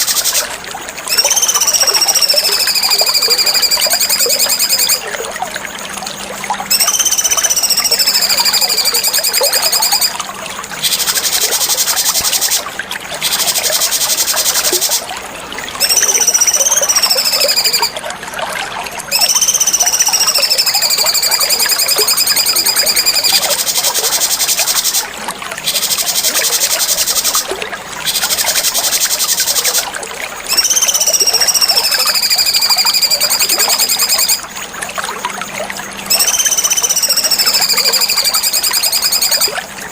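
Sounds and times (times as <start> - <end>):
bird whistles and buzzy trills: 0.0 - 5.2, 6.6 - 15.1, 15.8 - 18.0, 19.1 - 34.5, 36.0 - 39.9.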